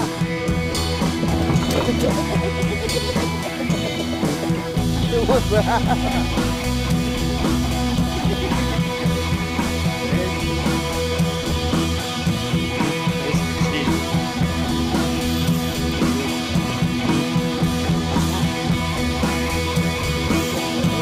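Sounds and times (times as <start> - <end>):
guitar music with drum beat: 0.0 - 21.0.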